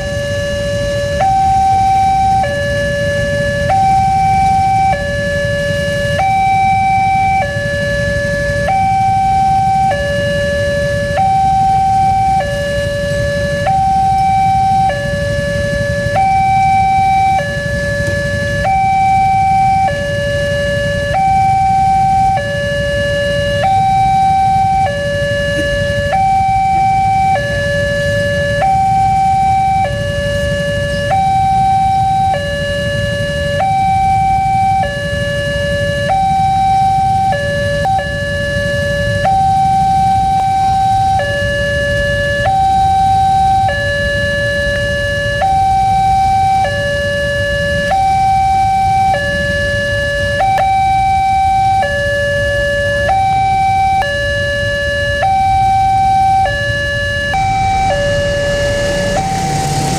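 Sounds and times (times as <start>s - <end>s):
two-tone level-crossing siren: 0.0s - 59.9s.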